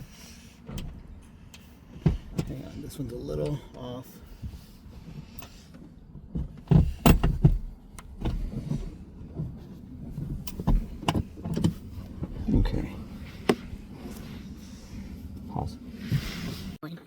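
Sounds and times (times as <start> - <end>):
seat and metal rails clunking: 0.0 - 16.8.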